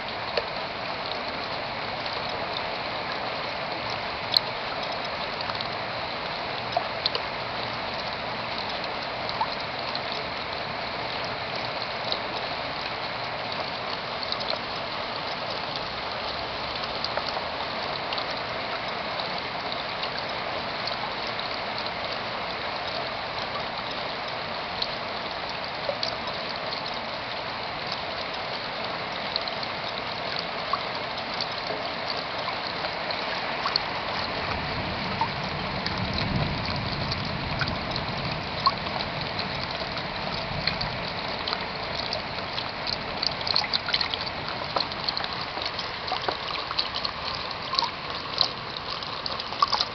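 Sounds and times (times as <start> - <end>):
rain on plastic sheeting: 0.0 - 49.9
water trickling: 0.0 - 49.9.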